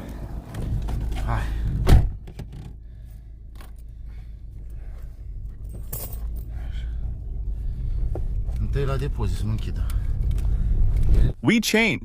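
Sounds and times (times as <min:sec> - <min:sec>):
steady low rumble: 0:00.0 - 0:11.4.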